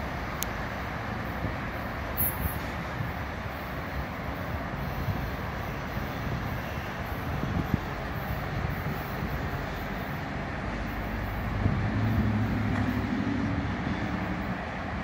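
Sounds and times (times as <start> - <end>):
distant train rumbling: 0.0 - 15.0.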